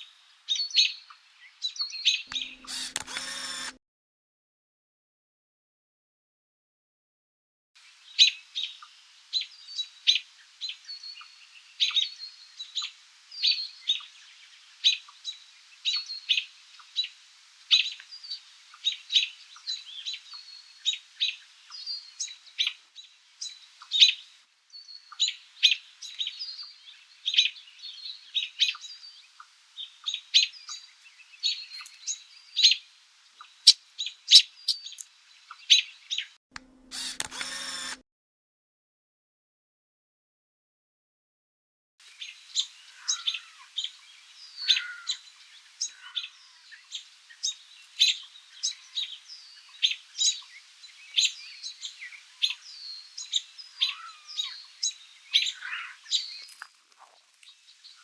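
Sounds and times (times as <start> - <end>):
small birds chirping: 0.0 - 3.6, 7.8 - 36.4, 42.0 - 58.0.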